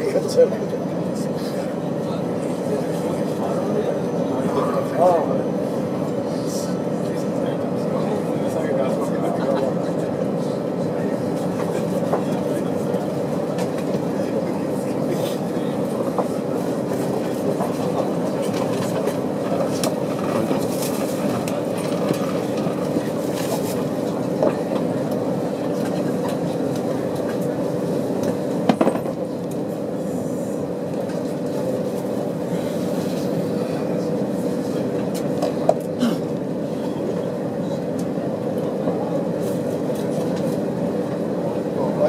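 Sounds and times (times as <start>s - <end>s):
train running rumble: 0.0s - 42.0s.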